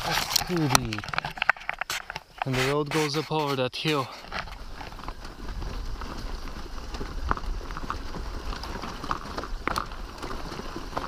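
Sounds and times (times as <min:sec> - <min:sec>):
bicycle rolling rumble: 0:00.0 - 0:11.0
bicycle tyres knocking on stones: 0:00.0 - 0:11.0.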